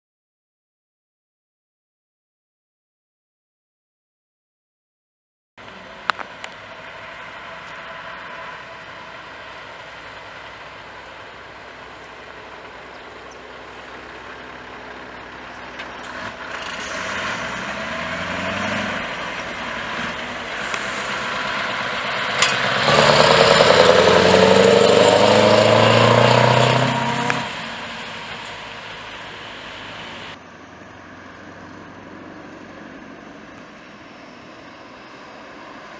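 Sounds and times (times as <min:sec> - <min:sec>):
truck diesel engine accelerating: 0:05.6 - 0:35.9.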